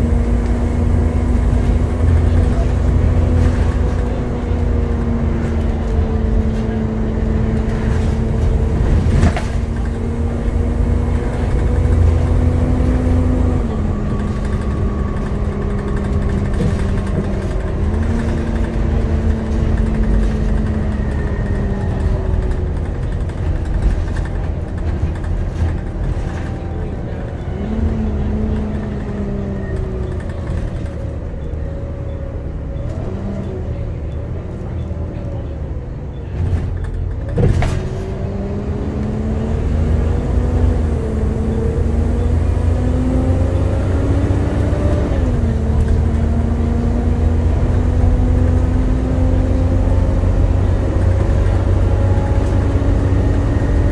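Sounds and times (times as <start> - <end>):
bus engine whine and rumble: 0.0 - 53.9.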